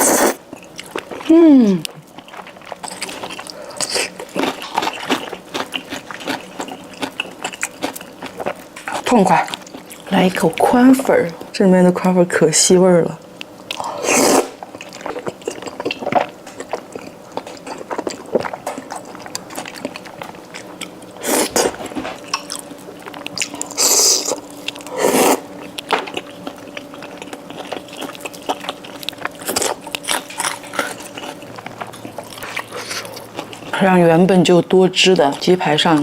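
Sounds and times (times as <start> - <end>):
wet chewing: 0.0 - 11.5, 13.4 - 36.0.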